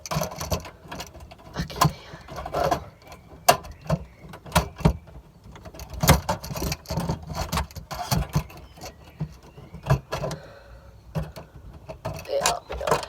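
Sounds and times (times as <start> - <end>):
objects clicking and rattling: 0.0 - 13.0.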